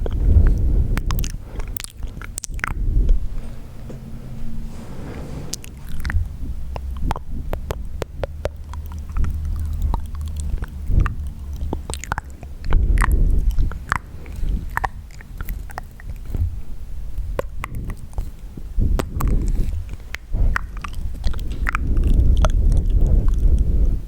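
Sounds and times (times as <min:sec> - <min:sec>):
tongue clicks and lip smacks: 0:00.0 - 0:02.8, 0:05.6 - 0:16.5, 0:17.3 - 0:18.4, 0:19.0 - 0:23.7
low rumble: 0:00.0 - 0:24.0.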